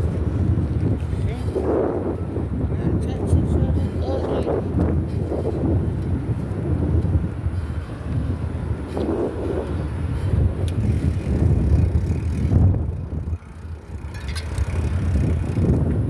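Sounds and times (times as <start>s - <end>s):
bicycle rolling noise: 0.0s - 16.0s
wind buffeting microphone: 0.0s - 16.0s.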